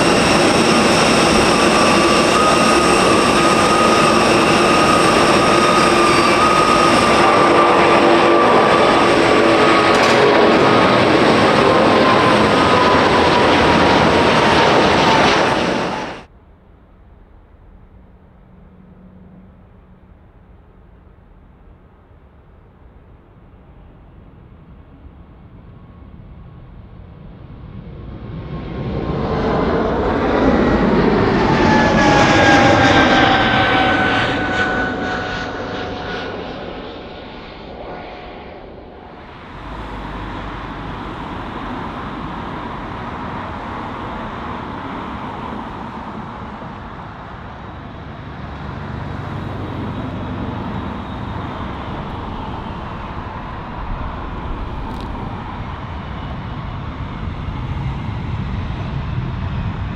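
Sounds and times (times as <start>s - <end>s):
jet airliner passing: 0.0s - 59.9s
steady jet engine noise: 0.0s - 59.9s.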